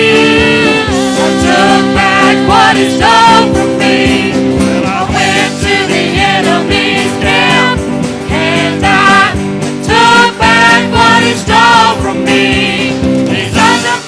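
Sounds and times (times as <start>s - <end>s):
worship music with singing: 0.0s - 14.0s.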